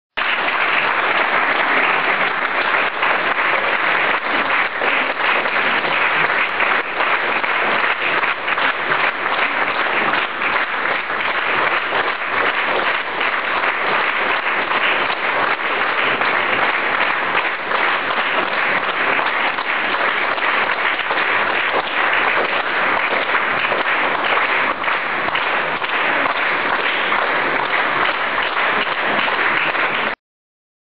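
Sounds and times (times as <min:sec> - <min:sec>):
audience applauding: 0:00.2 - 0:30.2.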